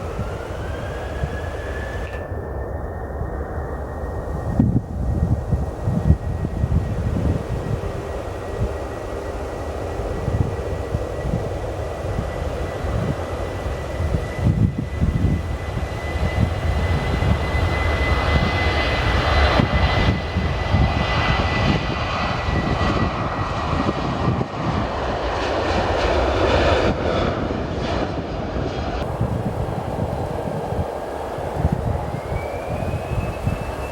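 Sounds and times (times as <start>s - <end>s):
jet engine high whine: 0.0s - 33.9s
jet engines rumbling: 0.0s - 33.9s.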